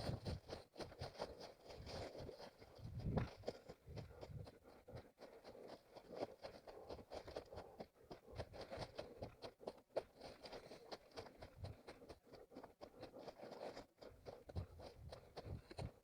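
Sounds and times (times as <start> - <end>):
footsteps on forest ground: 0.0 - 16.0.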